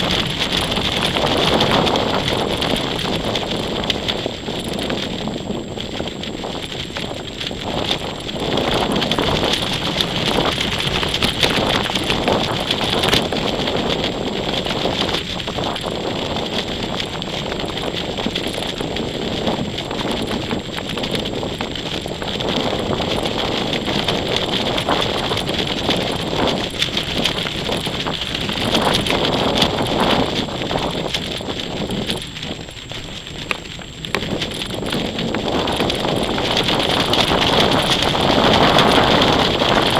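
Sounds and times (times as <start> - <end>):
kite fabric fluttering: 0.0 - 39.9
wind buffeting microphone: 0.0 - 39.9.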